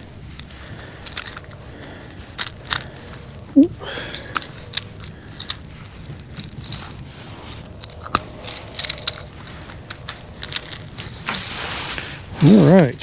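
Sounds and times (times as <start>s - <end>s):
hands handling fish and lure: 0.0s - 12.9s.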